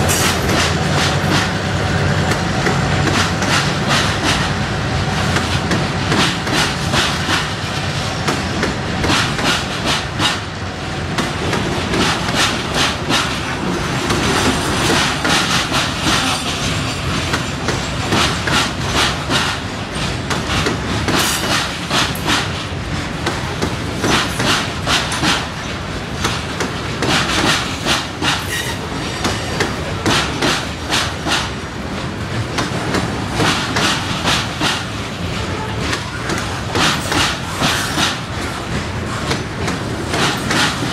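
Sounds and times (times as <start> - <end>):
train rumble: 0.0 - 40.9.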